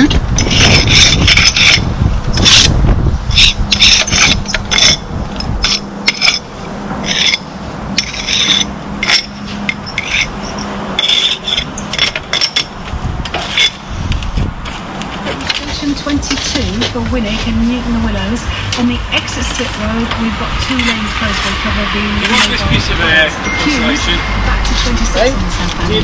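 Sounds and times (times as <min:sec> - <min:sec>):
rasping scraping strokes: 0:00.4 - 0:26.0.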